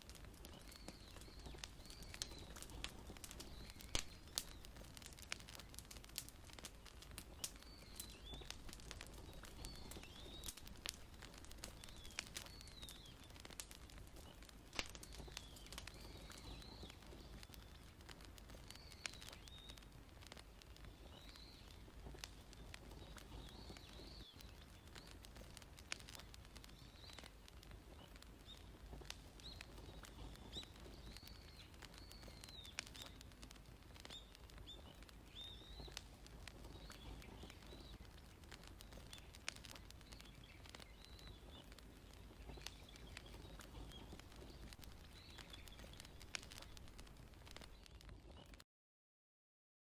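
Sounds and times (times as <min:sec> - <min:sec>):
wood fire crackling and popping: 0:00.0 - 0:48.6
small bird chirping: 0:00.4 - 0:33.4, 0:34.0 - 0:48.6.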